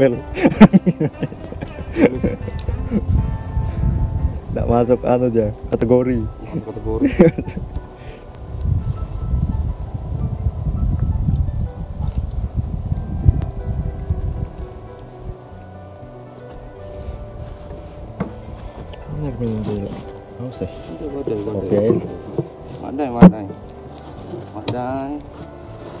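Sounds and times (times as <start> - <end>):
insects buzzing: 0.0 - 26.0.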